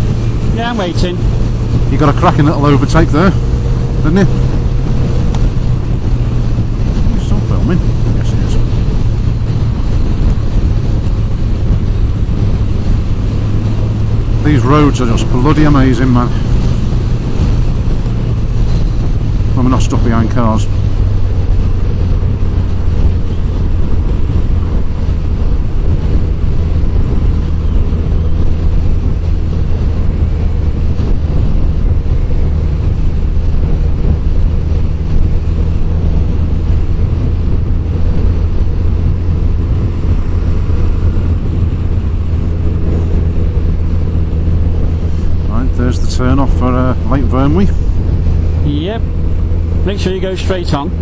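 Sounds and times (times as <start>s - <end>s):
motorcycle engine running: 0.0s - 51.0s
wind rush over microphone: 0.0s - 51.0s.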